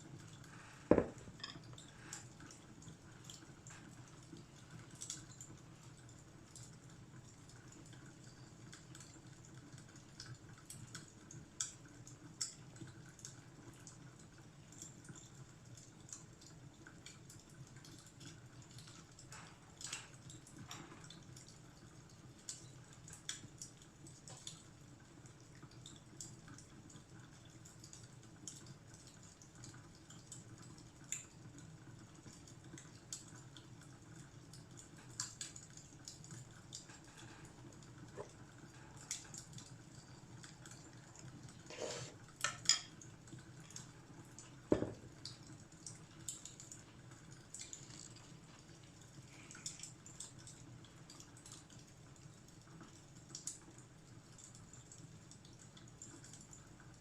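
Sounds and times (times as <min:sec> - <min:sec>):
fireplace crackling: 0:00.1 - 0:57.0.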